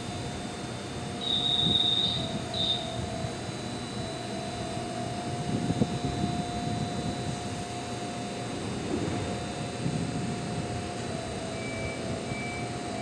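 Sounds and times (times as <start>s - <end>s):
electric train rumble and whine: 0.0s - 13.0s.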